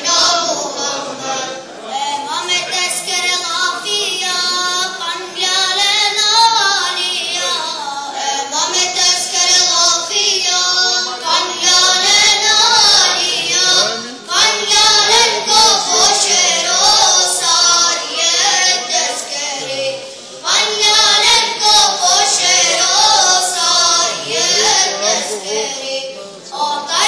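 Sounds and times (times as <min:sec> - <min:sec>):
high voice singing a chant: 0:02.2 - 0:27.0.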